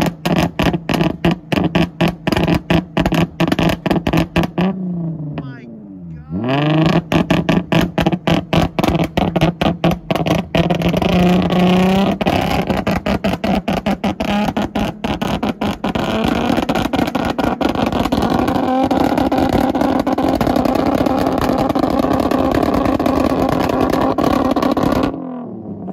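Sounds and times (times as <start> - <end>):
exhaust crackling and banging: 0.0 - 4.7, 6.6 - 25.2
engine held at high revs: 0.0 - 25.9.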